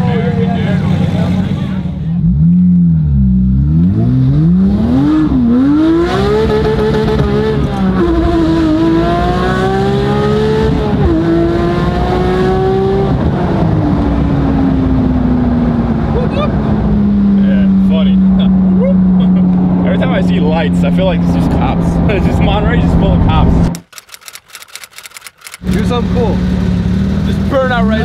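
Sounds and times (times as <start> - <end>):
sports car engine revving: 0.0 - 23.9, 25.6 - 28.0.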